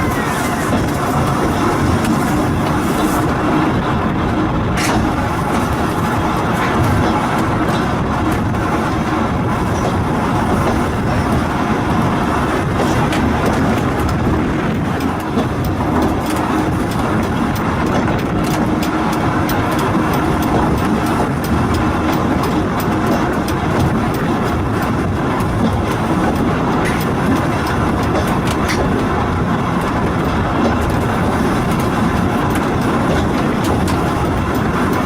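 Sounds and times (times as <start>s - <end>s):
electric railway car rumbling: 0.0s - 35.0s.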